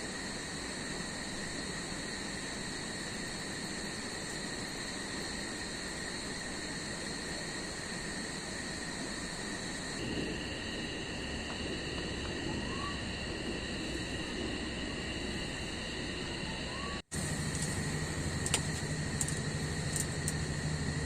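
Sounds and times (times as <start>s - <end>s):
rain hiss: 0.0s - 16.5s, 17.1s - 21.0s
insects droning: 0.0s - 21.0s.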